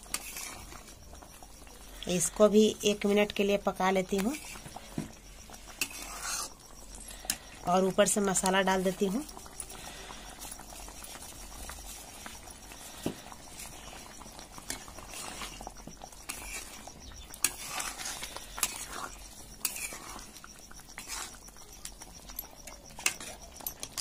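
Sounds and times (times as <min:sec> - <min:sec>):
curry simmering and bubbling: 0:00.0 - 0:24.0.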